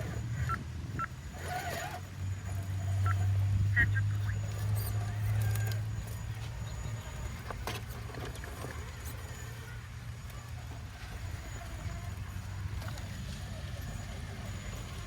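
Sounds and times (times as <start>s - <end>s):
rc car motor whirring: 0.0s - 15.0s.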